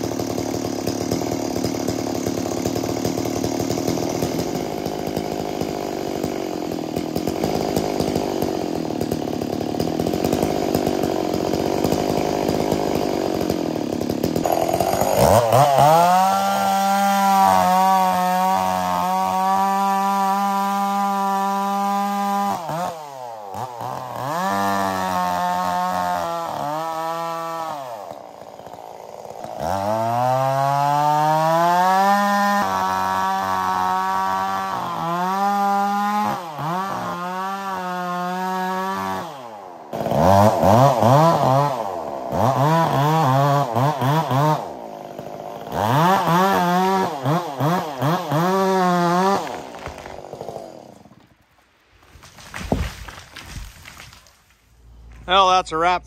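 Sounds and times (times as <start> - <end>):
chainsaw revving in a cut: 0.0 - 51.4, 52.1 - 56.0.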